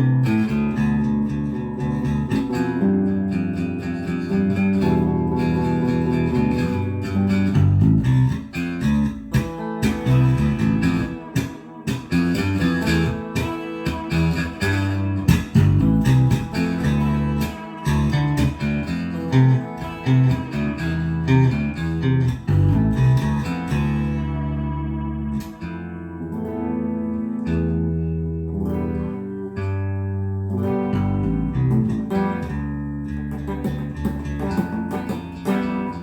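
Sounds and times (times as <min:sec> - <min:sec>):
electric bass notes: 0:00.0 - 0:36.0.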